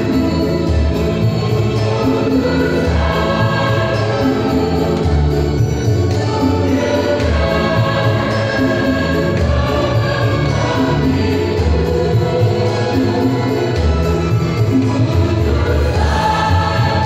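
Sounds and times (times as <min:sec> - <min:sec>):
choir singing gospel song: 0:00.0 - 0:17.0.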